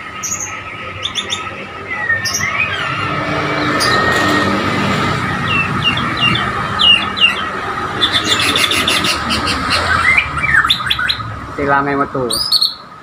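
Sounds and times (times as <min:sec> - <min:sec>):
bird calling: 0:00.0 - 0:04.2, 0:05.4 - 0:11.4, 0:12.2 - 0:12.9
high-pitched hum: 0:00.0 - 0:10.6.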